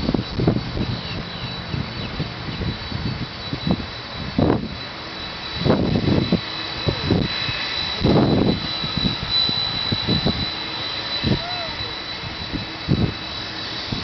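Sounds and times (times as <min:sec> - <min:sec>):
jet engines whining: 0:00.0 - 0:14.0
wind buffeting microphone: 0:00.0 - 0:14.0.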